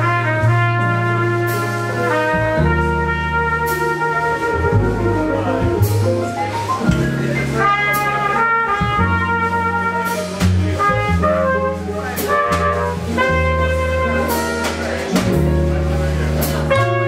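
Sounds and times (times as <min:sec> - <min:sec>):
jazz trumpet melody: 0:00.0 - 0:17.0
plucked double bass: 0:00.0 - 0:17.0.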